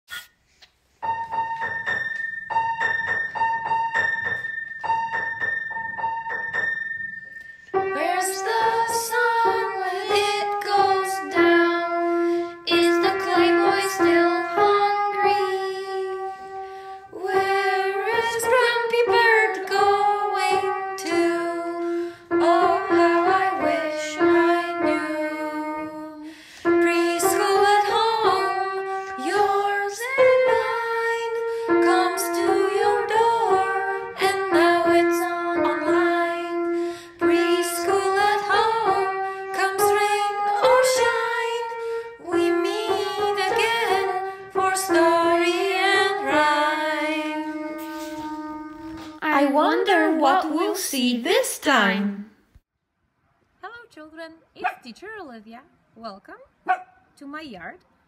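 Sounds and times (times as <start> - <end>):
repeated high piano notes: 1.0 - 50.8
song sung over piano: 1.2 - 50.3.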